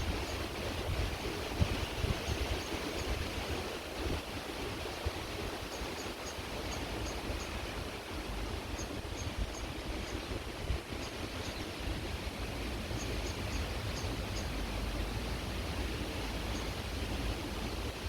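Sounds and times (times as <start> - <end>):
creek water running: 0.0 - 18.0
low wind rumble: 0.0 - 18.0.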